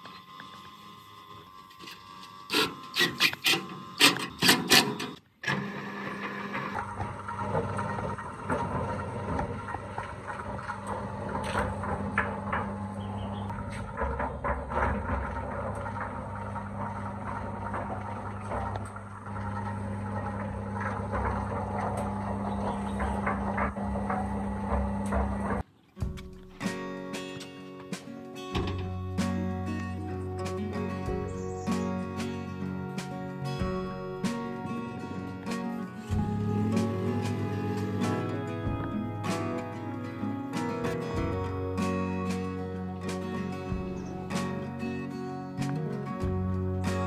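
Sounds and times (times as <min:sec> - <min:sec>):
machine humming: 0:00.0 - 0:25.6, 0:31.0 - 0:47.0.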